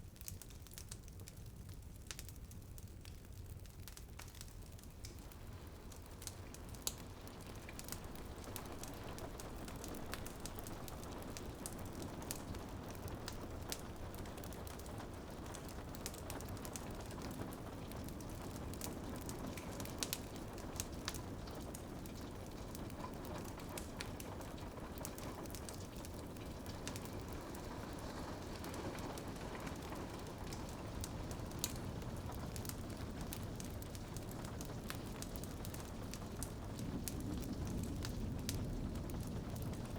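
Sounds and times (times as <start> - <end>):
rain on a window: 0.0 - 39.9
wood fire crackling and popping: 0.0 - 39.9.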